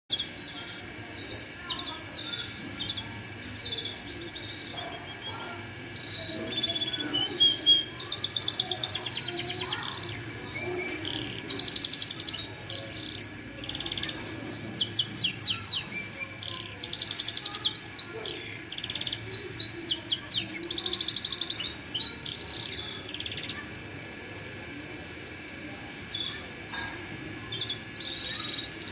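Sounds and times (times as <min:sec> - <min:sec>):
canary singing: 0:00.1 - 0:23.9, 0:26.0 - 0:28.9.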